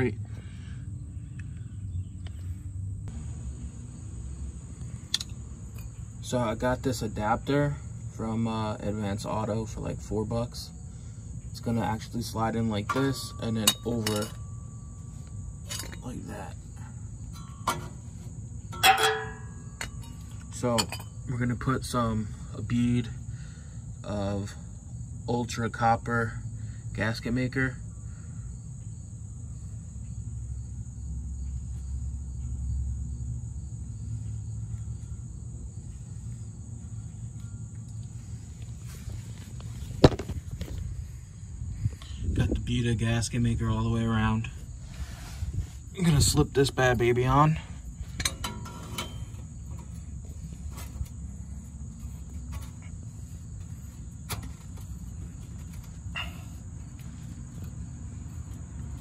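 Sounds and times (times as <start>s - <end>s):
steady low rumble: 0.0s - 22.4s, 27.8s - 59.0s
high-pitched insect chorus: 0.0s - 59.0s.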